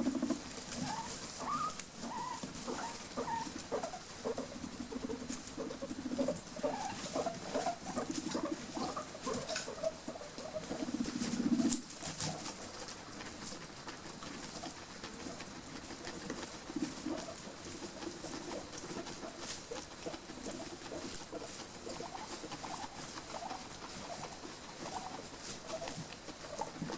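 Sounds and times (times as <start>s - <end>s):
guinea pig squeaks: 0.0s - 26.9s
guinea pigs purring: 0.0s - 26.9s.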